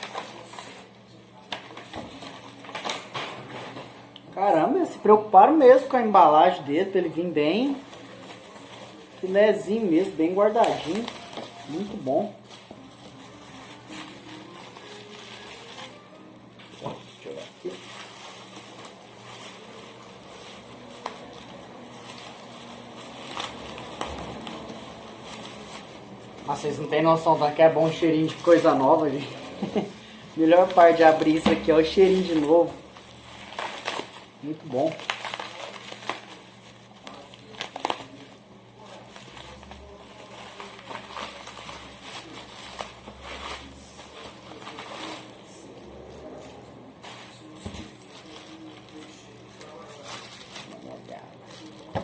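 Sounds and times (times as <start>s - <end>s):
packaging rustling: 0.0s - 4.2s, 5.6s - 52.0s.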